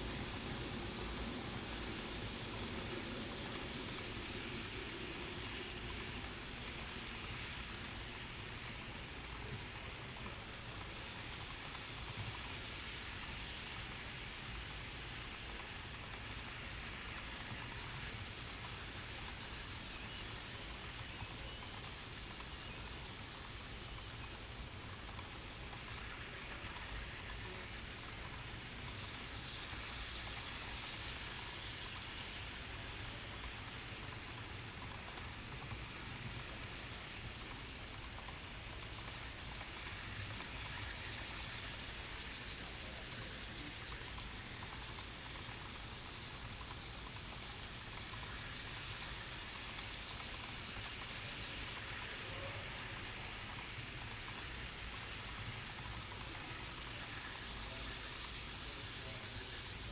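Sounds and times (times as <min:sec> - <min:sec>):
model train wheels clattering: 0:00.0 - 0:59.9.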